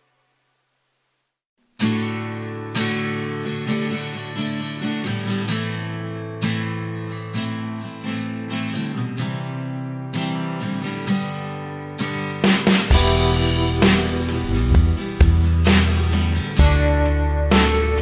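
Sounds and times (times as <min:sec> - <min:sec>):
strummed acoustic guitar chords: 0:01.8 - 0:18.0.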